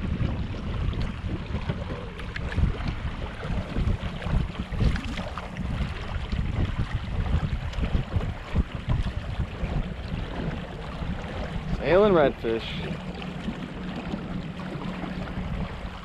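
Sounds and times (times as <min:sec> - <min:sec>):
water rushing past a hull: 0:00.0 - 0:16.0
wind buffeting microphone: 0:00.0 - 0:16.0.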